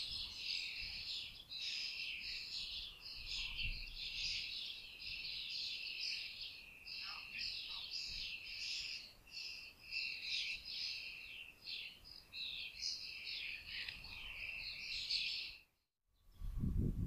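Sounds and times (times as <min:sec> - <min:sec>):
small birds chirping: 0:00.0 - 0:16.5.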